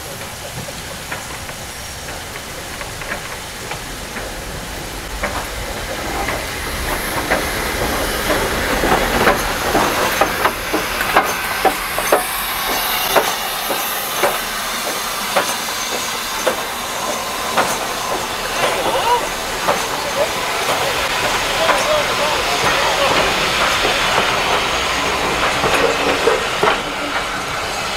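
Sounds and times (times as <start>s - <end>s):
steam hissing: 0.0s - 27.9s
train wheels clacking on rails: 0.0s - 27.9s.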